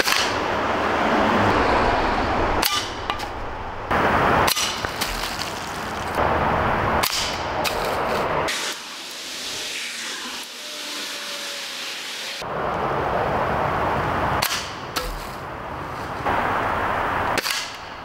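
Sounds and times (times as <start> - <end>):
rushing outdoor background: 0.0 - 18.0.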